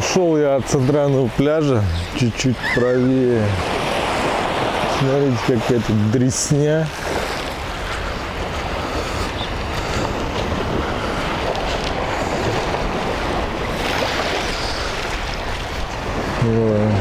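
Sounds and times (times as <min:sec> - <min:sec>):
small waves washing on sand: 0:00.0 - 0:17.0
wind rumbling on microphone: 0:00.0 - 0:17.0.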